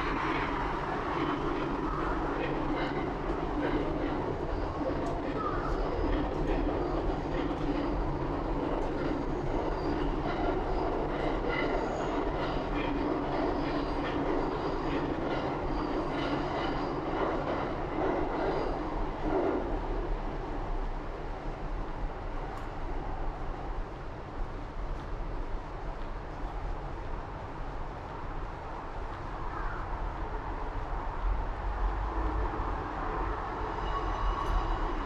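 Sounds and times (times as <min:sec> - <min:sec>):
train rail rumble: 0:00.0 - 0:35.0.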